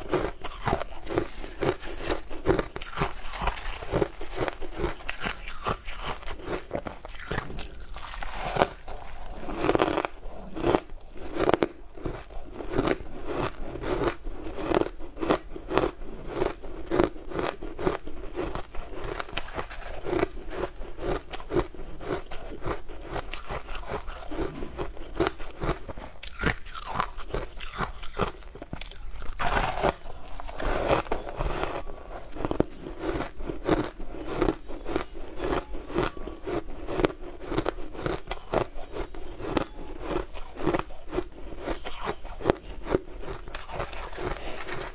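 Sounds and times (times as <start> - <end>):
crushed ice being chewed: 0.0 - 44.9.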